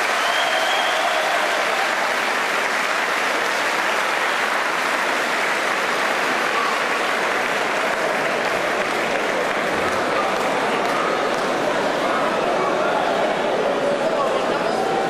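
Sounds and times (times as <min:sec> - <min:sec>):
crowd applauding: 0:00.0 - 0:13.1.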